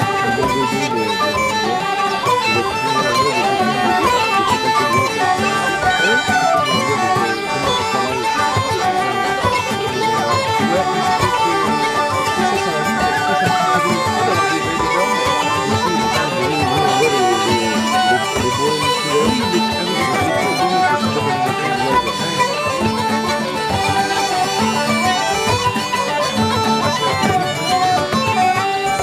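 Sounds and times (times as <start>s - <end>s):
bagpipes with drone: 0.0s - 29.0s
whistles playing melody: 0.3s - 29.0s.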